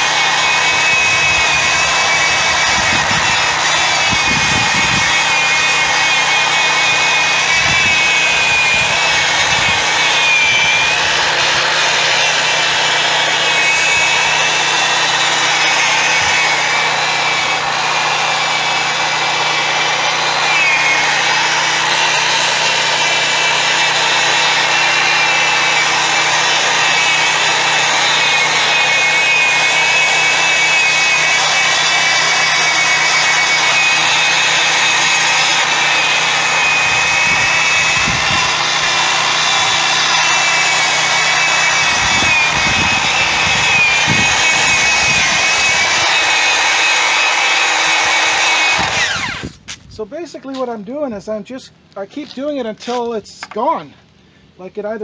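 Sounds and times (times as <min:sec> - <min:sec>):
electric drill motor whine: 0:00.0 - 0:49.7.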